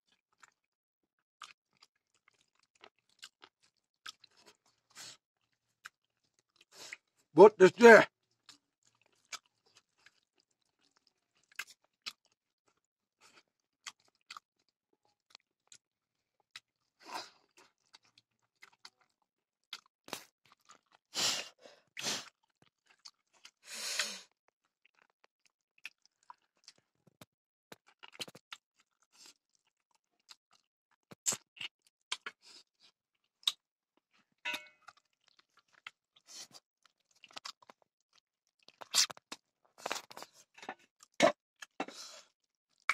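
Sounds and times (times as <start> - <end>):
person chewing food: 0.1 - 0.7, 1.4 - 7.3, 8.1 - 42.9.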